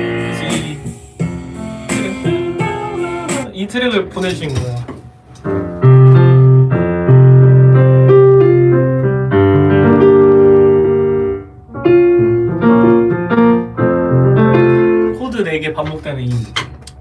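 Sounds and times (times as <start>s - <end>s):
piano chords and melody: 0.0s - 17.0s.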